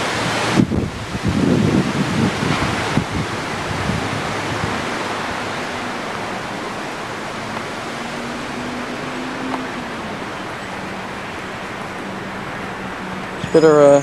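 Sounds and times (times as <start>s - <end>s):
low rumbling wind buffets: 0.0s - 13.8s
wind blowing across microphone: 0.0s - 14.0s.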